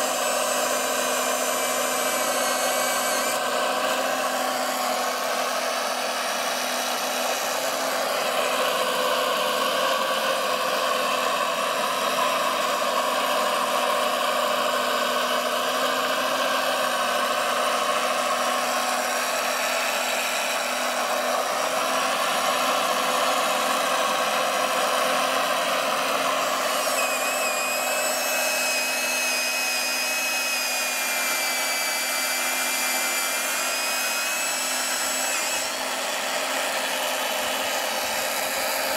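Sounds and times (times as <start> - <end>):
electric motors and hydraulic pump whine: 0.0 - 38.9.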